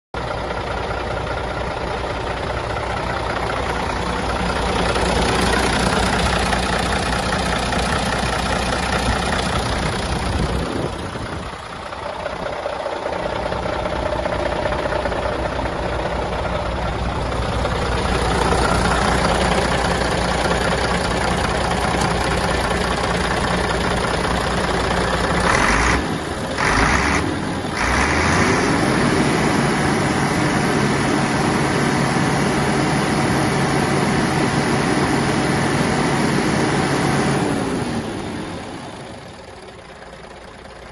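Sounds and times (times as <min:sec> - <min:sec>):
diesel engine idling: 0:00.2 - 0:40.9.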